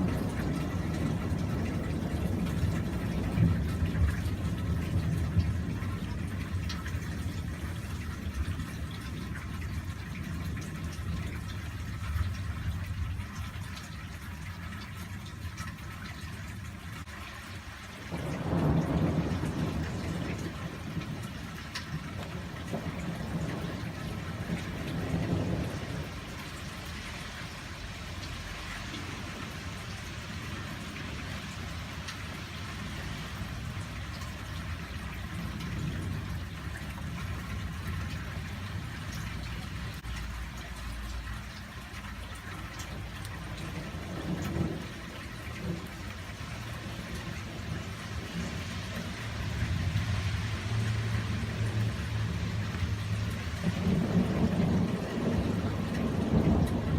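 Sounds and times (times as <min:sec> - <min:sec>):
thunder rumbling: 0:00.0 - 0:16.8, 0:17.5 - 0:56.9
steady rain falling: 0:00.0 - 0:56.9.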